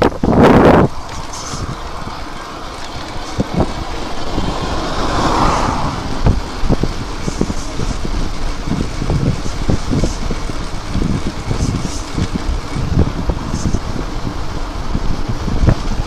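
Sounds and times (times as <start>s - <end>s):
low riding rumble: 0.0s - 16.0s
wind buffeting microphone: 0.0s - 16.0s.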